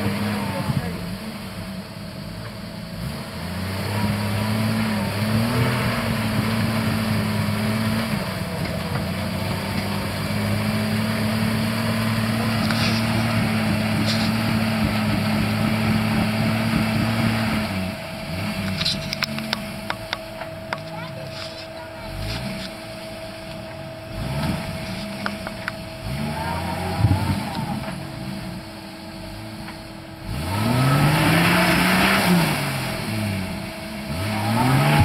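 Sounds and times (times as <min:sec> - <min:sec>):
truck engine revving high: 0:00.0 - 0:02.0, 0:02.8 - 0:35.0.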